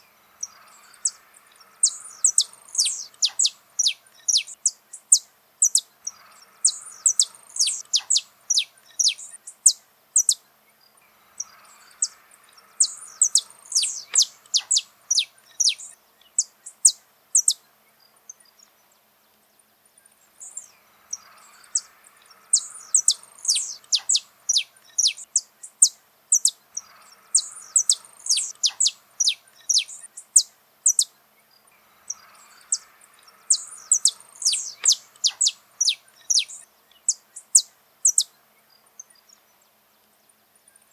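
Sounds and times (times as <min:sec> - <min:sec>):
finch singing: 0:00.0 - 0:18.8, 0:20.2 - 0:39.7.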